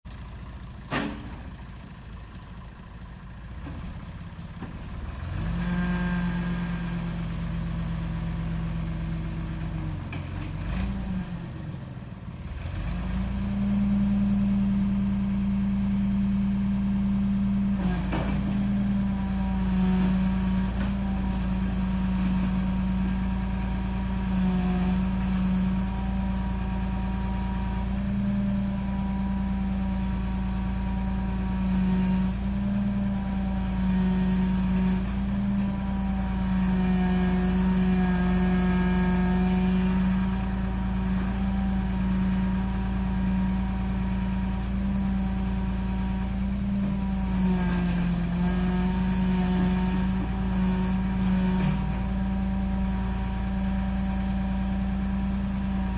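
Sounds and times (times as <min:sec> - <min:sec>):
backhoe engine running: 0:00.0 - 0:55.9.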